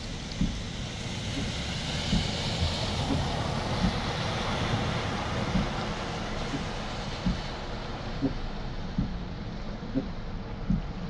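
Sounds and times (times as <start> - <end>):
car driving through floodwater: 0.0 - 11.0.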